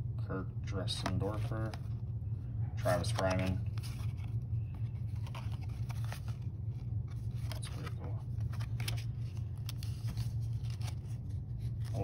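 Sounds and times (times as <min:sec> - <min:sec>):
low hum: 0:00.0 - 0:12.0
cards flipped by hand: 0:00.9 - 0:02.1, 0:02.8 - 0:12.0.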